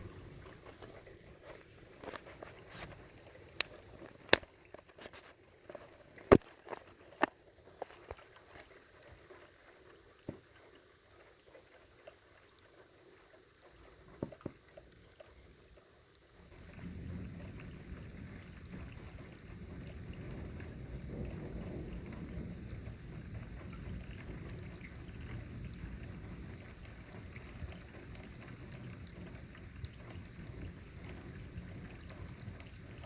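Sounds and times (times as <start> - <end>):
raindrops ticking on a surface: 0.0 - 33.0.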